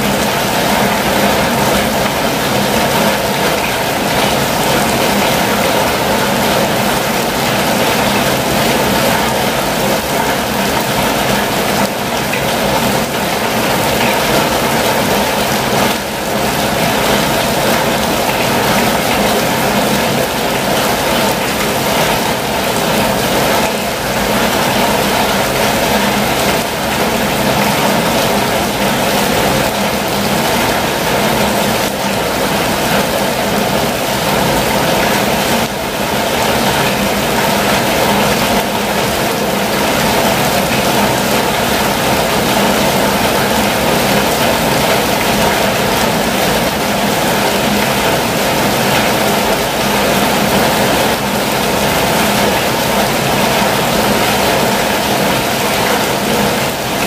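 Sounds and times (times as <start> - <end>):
rain on a van roof: 0.0 - 57.0.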